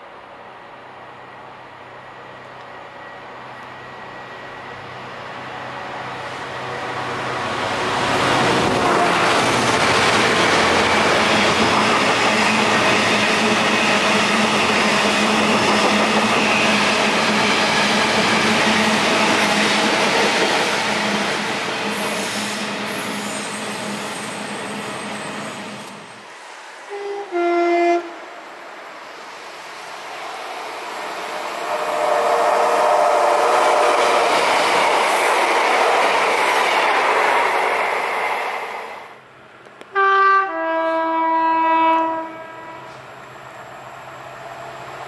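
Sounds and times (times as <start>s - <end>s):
train wheels rumbling on rail: 1.7s - 27.4s, 28.0s - 40.0s.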